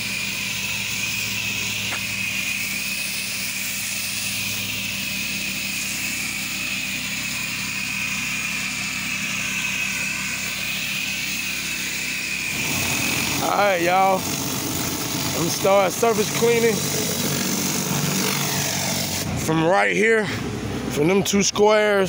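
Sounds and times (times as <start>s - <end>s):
spray hissing onto concrete: 0.0s - 19.4s
pressure washer engine running: 0.0s - 22.0s.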